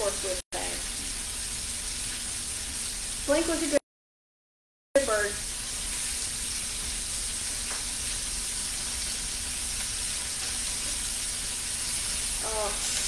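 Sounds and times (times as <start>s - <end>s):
food sizzling in grill pan: 0.0s - 3.8s, 5.0s - 13.0s.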